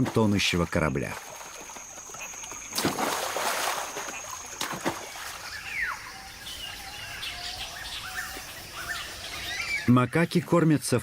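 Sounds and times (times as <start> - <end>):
water splashing: 0.0 - 10.0
birds chirping: 0.2 - 11.0.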